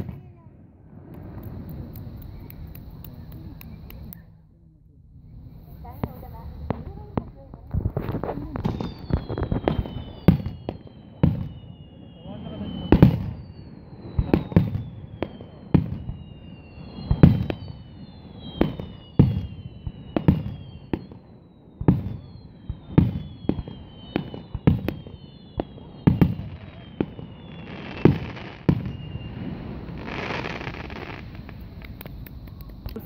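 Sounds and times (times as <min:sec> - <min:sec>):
descending firework whistles: 0:00.0 - 0:04.4, 0:05.1 - 0:33.0
fireworks bursting booms: 0:00.0 - 0:04.4, 0:05.4 - 0:33.0.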